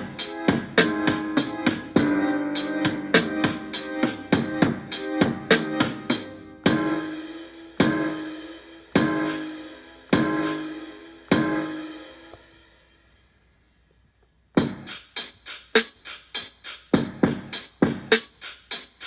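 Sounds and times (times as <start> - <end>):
drum beat with keyboard chords: 0.0 - 12.7, 14.6 - 19.0.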